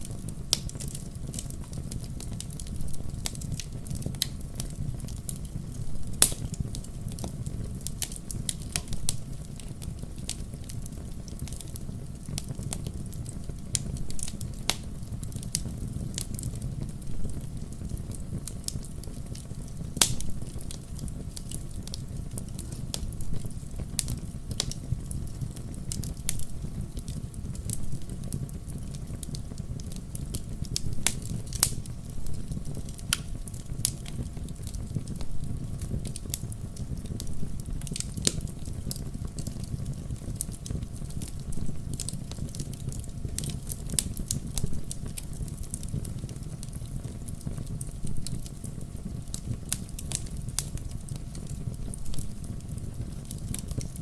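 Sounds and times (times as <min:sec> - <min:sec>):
campfire crackling and popping: 0:00.0 - 0:54.0
low rumble of burning: 0:00.0 - 0:54.0.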